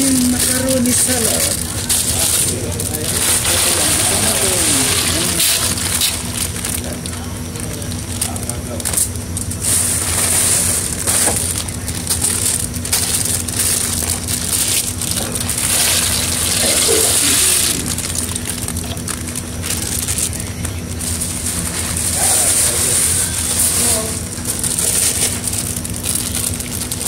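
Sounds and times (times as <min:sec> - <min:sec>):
water boiling in a pot: 0:00.0 - 0:27.0.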